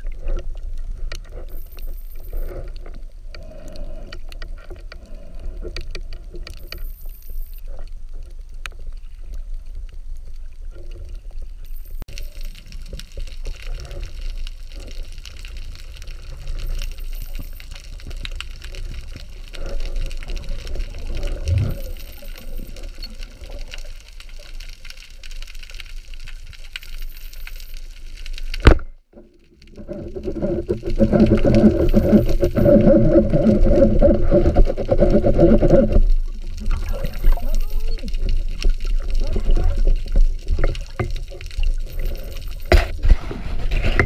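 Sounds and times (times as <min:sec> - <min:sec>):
muffled underwater water rush: 0:00.0 - 0:44.0.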